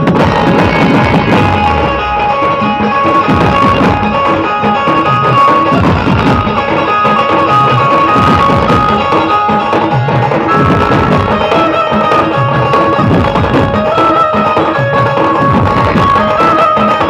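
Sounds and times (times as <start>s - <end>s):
fast dense drumming: 0.0s - 17.0s
held stepping melody: 0.0s - 17.0s.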